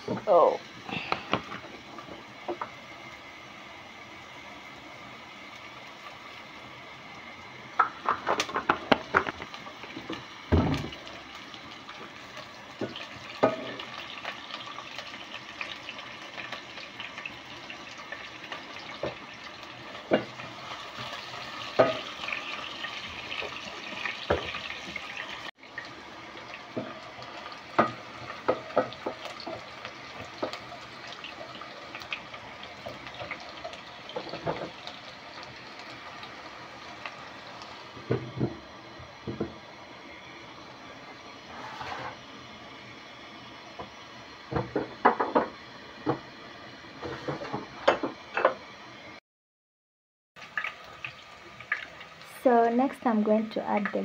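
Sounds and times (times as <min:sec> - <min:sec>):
onions sizzling in a pot: 0:00.0 - 0:49.2, 0:50.4 - 0:54.0.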